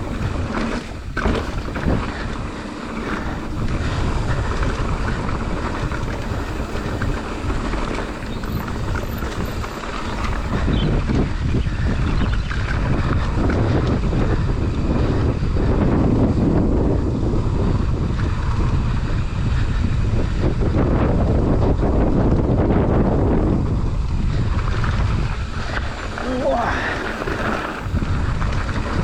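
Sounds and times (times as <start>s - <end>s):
bike rattling over trail: 0.0s - 29.0s
wind buffeting microphone: 0.0s - 29.0s.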